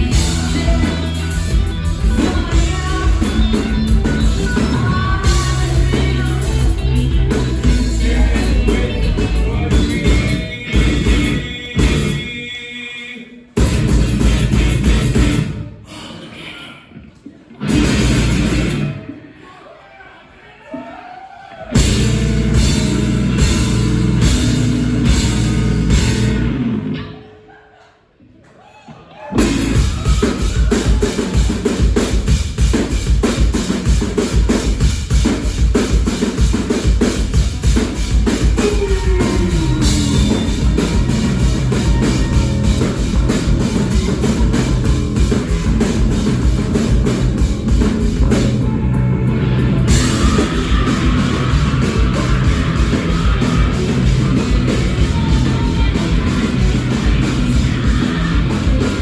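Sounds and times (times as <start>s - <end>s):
fast drumming on a drum kit: 0.0s - 12.2s, 13.6s - 15.5s, 21.8s - 26.5s, 29.4s - 48.7s, 49.8s - 59.0s
live rock band playing: 0.0s - 12.4s, 13.6s - 15.8s, 17.6s - 19.2s, 21.7s - 27.2s, 29.4s - 59.0s.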